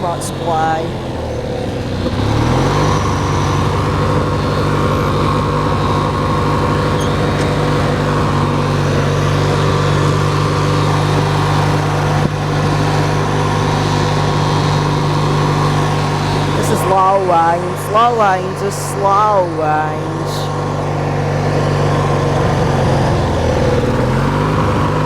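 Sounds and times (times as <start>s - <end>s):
riding lawn tractor engine: 0.0s - 25.0s.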